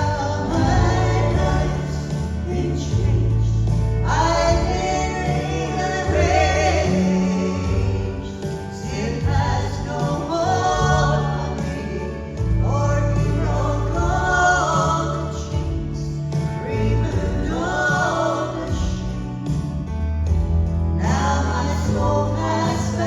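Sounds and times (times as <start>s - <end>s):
bass line: 0.0s - 23.0s
vocal trio singing gospel: 0.0s - 23.0s.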